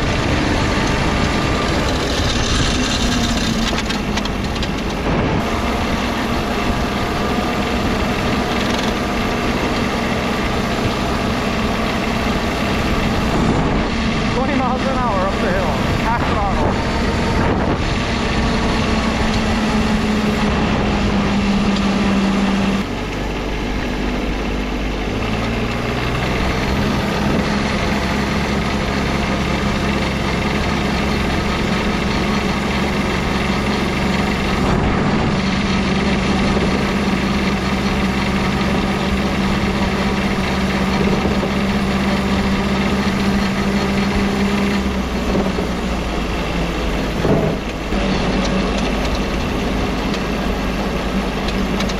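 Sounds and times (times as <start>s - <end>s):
small diesel engine running: 0.0s - 51.9s.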